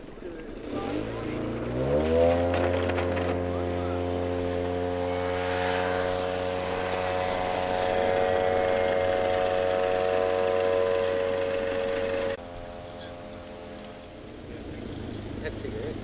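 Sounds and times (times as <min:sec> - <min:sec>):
model plane engine at full throttle: 0:00.0 - 0:16.0.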